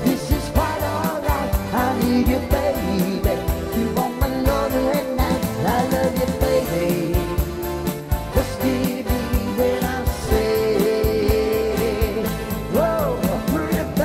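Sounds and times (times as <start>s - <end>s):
drum beat and bass: 0.0s - 14.0s.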